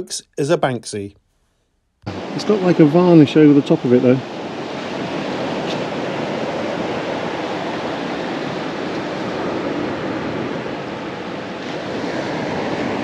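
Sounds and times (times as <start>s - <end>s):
sea surf washing on beach: 2.1s - 13.0s.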